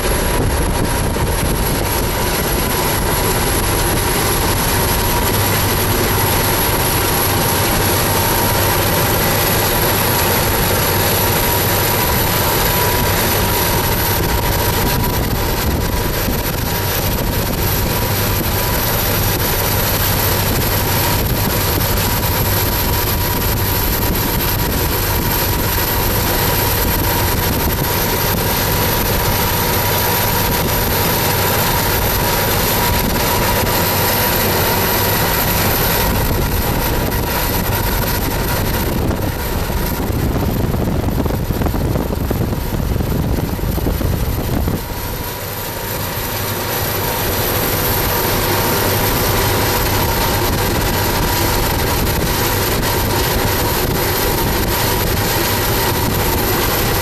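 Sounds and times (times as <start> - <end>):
diesel locomotive engines: 0.0 - 57.0
high-pitched whine: 0.0 - 57.0.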